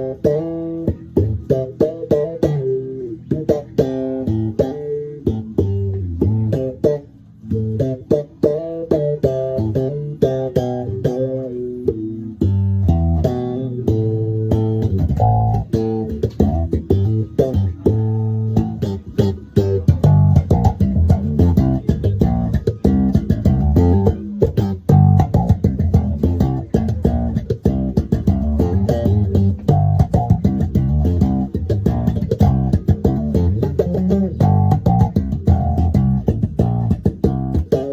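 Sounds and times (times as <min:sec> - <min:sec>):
slapped bass guitar notes: 0:00.0 - 0:37.9.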